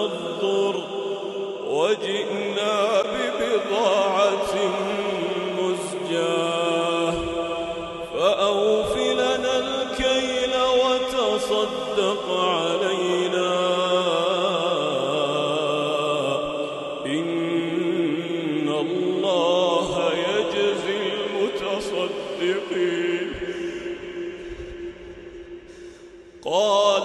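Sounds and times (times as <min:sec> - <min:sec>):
man chanting melodic recitation: 0:00.0 - 0:24.4, 0:26.4 - 0:27.0.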